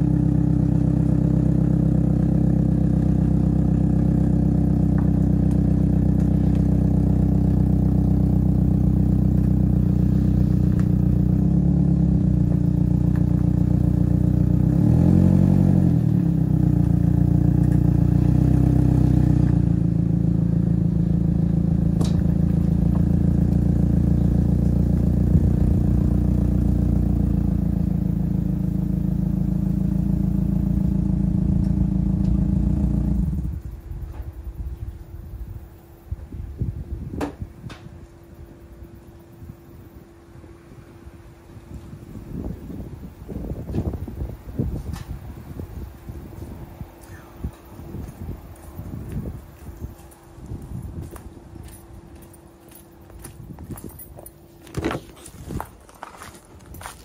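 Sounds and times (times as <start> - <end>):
vehicle engine idling and revving: 0.0 - 57.0.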